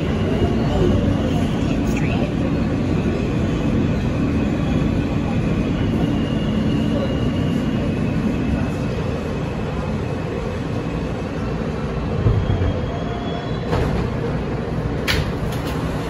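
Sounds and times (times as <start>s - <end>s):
subway car wheels rumbling: 0.0s - 16.0s.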